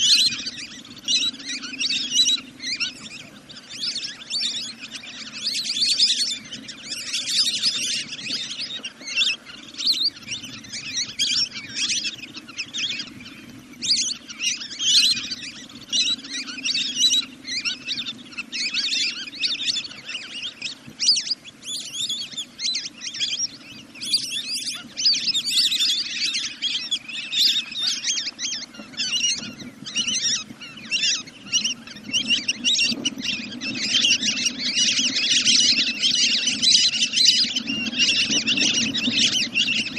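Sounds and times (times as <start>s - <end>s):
ducks calling: 0.0s - 39.9s.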